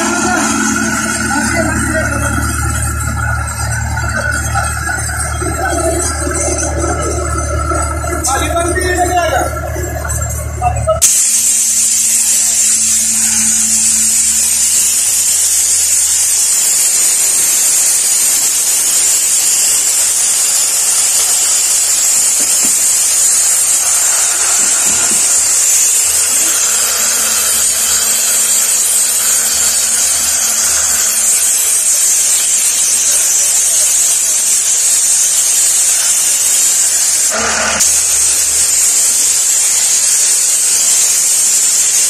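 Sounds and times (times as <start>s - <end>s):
high-pitched hiss: 0.0s - 42.0s.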